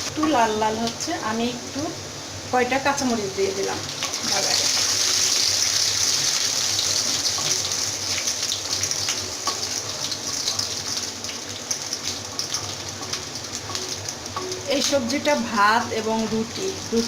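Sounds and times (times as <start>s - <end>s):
hot oil sizzling in a pan: 0.0s - 17.0s.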